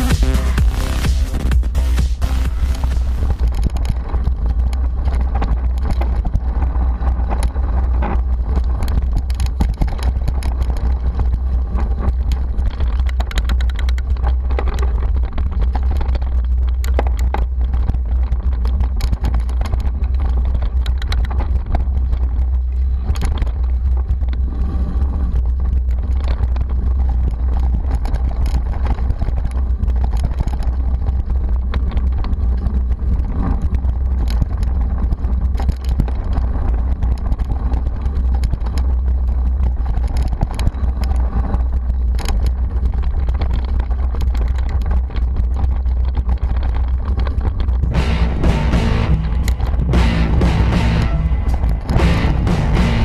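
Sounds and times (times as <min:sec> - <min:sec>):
low rumble of wind and vibration: 0:00.0 - 0:53.0
bike rattling over rough ground: 0:02.7 - 0:48.0.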